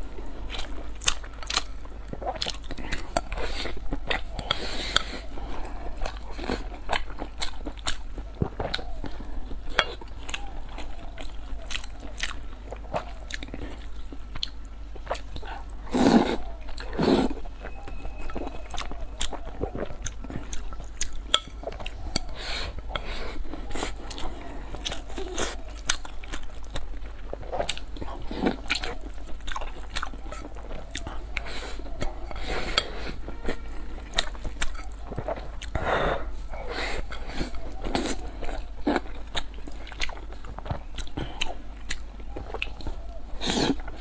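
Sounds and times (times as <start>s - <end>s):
chewing and biting food: 0.0s - 44.0s.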